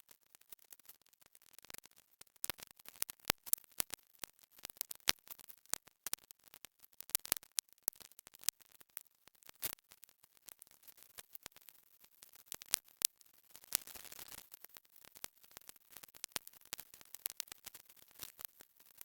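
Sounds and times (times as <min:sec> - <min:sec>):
dense crackling clicks: 0:00.0 - 0:19.0.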